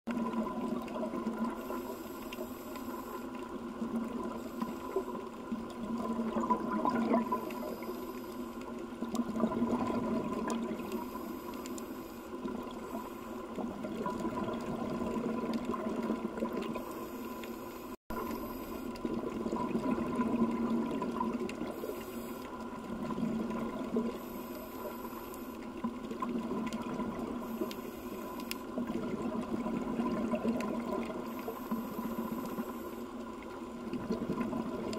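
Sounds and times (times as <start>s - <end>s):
regulator bubbles underwater: 0.1s - 34.9s
water movement: 0.1s - 34.9s.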